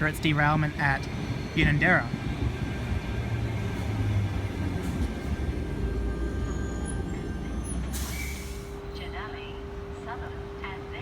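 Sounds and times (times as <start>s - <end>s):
electric train rumbling: 0.0s - 11.0s
faint high train tones: 0.0s - 11.0s.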